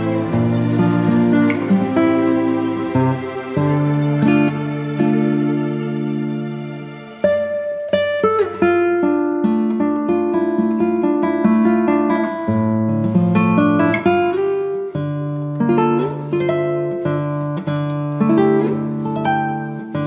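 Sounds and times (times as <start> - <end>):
acoustic guitar plucked and strummed: 0.0 - 20.0.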